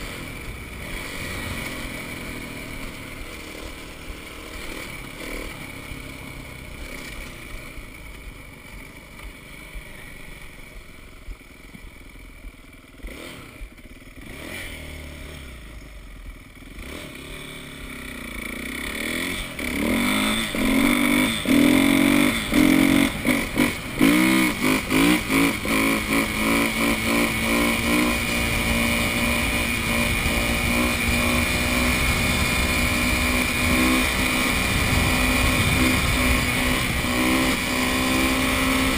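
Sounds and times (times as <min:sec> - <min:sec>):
dirt bike engine revving: 0:00.0 - 0:11.4, 0:12.5 - 0:38.9.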